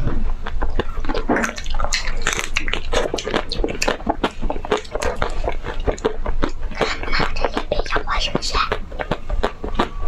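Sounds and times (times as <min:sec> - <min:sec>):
chewing crunchy ice cream: 0:00.0 - 0:10.0.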